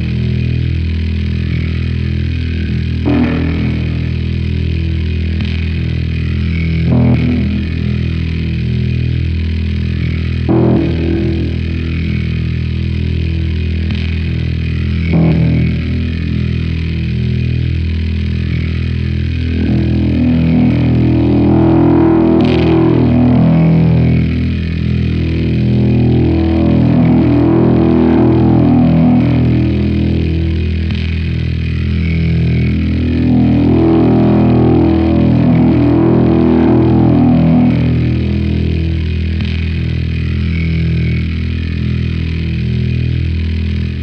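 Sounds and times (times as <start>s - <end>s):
low sustained music drone: 0.0s - 44.0s.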